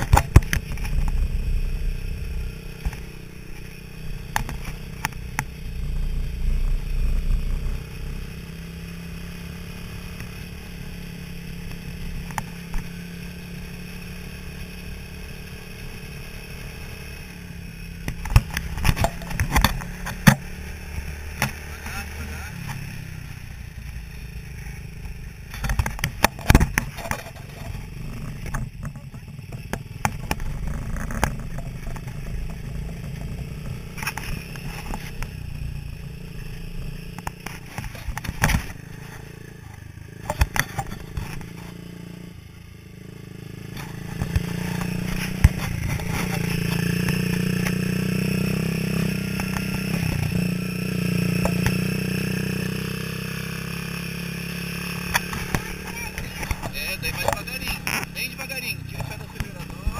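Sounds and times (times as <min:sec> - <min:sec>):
small petrol engine running: 0:00.0 - 0:59.9.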